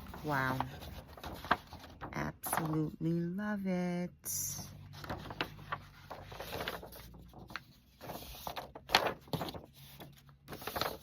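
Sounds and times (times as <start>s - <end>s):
paper rustling and crinkling: 0.0s - 3.0s, 4.8s - 11.0s.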